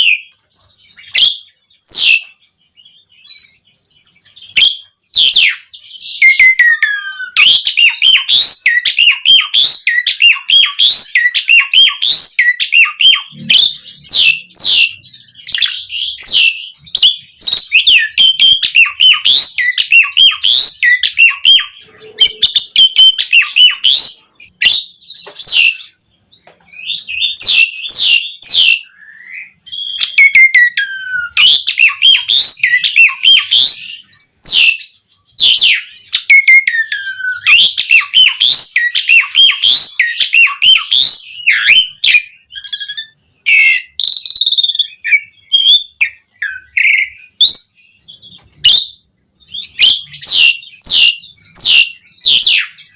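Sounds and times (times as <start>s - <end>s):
starling singing: 0.0s - 52.9s.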